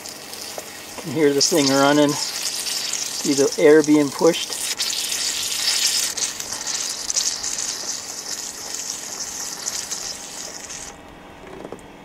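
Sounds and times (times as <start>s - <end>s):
air and water hissing from drain: 0.0s - 11.0s.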